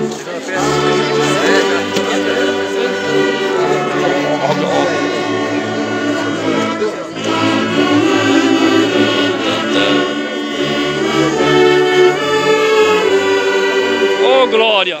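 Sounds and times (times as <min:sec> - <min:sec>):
orchestra playing a hymn: 0:00.0 - 0:15.0.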